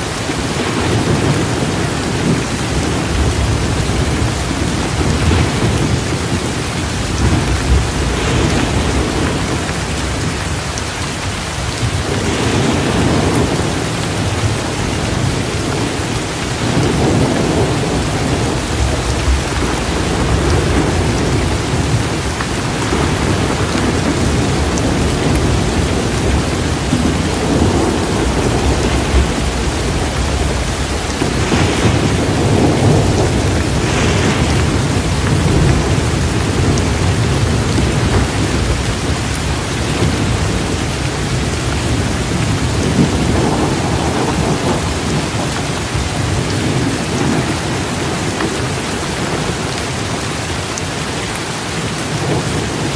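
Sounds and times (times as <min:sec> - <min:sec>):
heavy rain: 0:00.0 - 0:52.9
low rolling thunder: 0:00.2 - 0:50.6.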